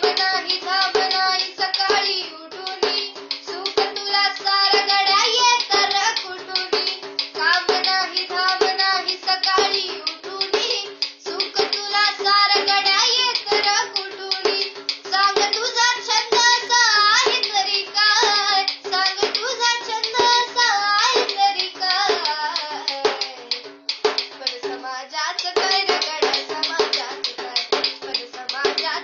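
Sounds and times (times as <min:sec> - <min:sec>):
girl singing: 0:00.0 - 0:29.0
hand drum beating: 0:00.0 - 0:29.0.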